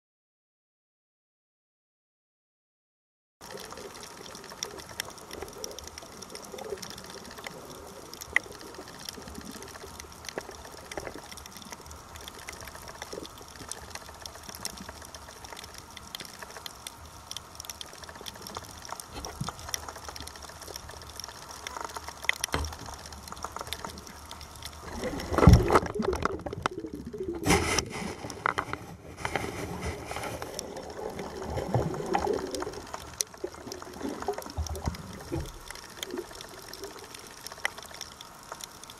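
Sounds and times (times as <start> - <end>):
gushing water and bubbles: 3.4 - 38.9
underwater crackle of fine clicks: 3.4 - 38.9.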